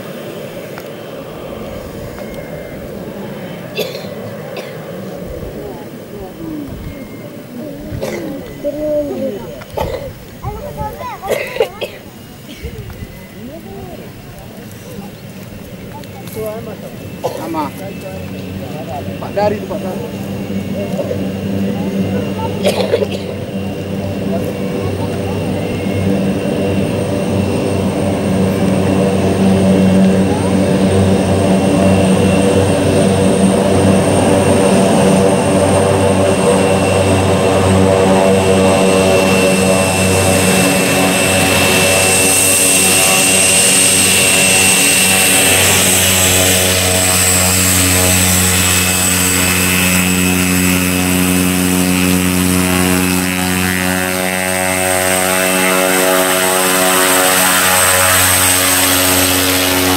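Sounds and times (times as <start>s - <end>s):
propeller hum: 0.0s - 59.9s
turboprop engine whine: 0.0s - 59.9s.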